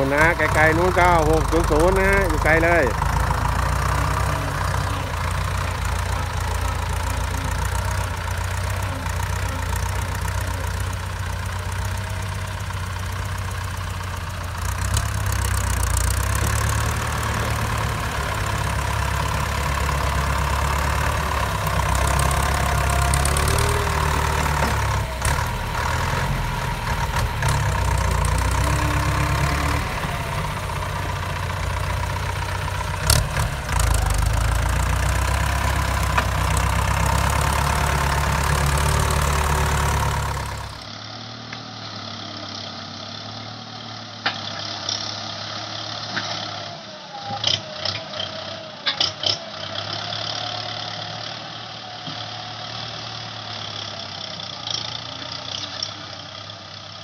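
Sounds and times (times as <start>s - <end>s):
tractor engine running under load: 0.0s - 57.0s.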